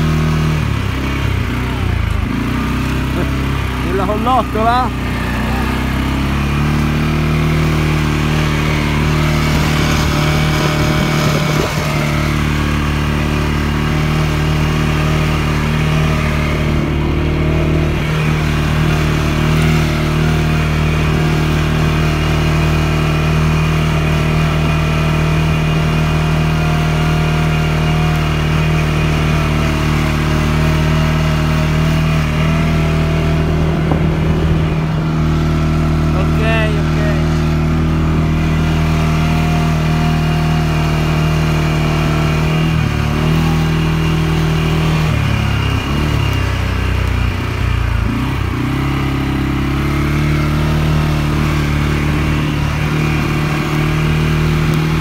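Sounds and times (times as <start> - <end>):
atv engine running under load: 0.0 - 55.0.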